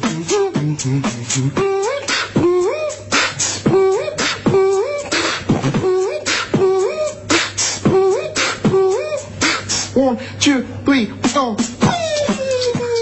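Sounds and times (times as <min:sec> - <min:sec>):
man beatboxing: 0:00.0 - 0:13.0.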